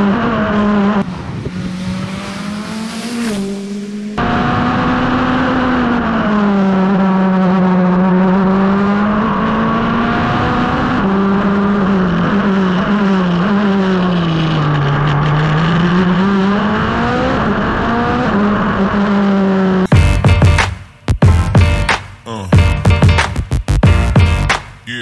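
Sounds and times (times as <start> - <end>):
race car engine revving: 0.0 - 21.9.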